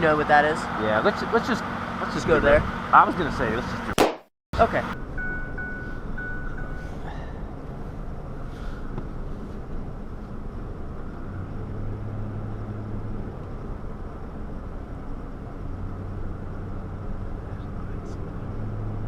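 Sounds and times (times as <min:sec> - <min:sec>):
pickup truck engine and road noise: 0:00.0 - 0:19.0.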